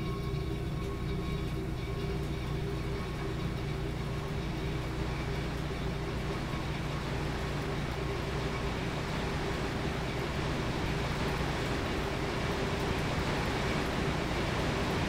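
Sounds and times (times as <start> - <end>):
faint steady tones: 0.0 - 15.0.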